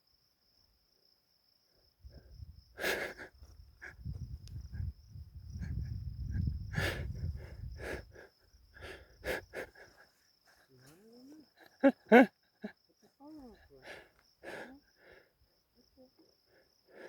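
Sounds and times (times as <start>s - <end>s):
insect trill: 0.0s - 17.0s.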